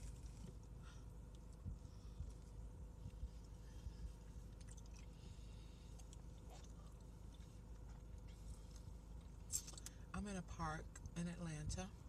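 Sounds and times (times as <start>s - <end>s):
person chewing food: 0.0s - 10.0s
low steady rumble: 0.0s - 12.0s.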